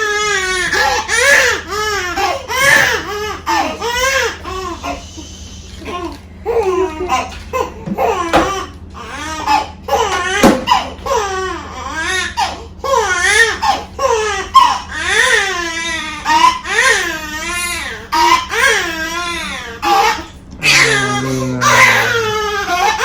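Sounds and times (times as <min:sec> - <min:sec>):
infant crying: 0:00.0 - 0:05.0, 0:06.5 - 0:23.0.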